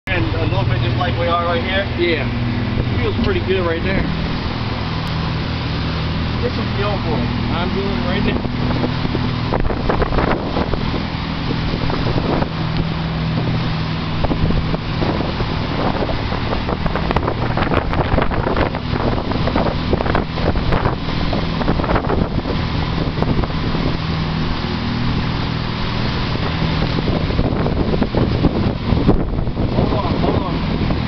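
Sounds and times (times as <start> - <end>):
motorboat engine running: 0.0 - 31.0
wake churning: 0.1 - 31.0
wind buffeting microphone: 0.1 - 31.0.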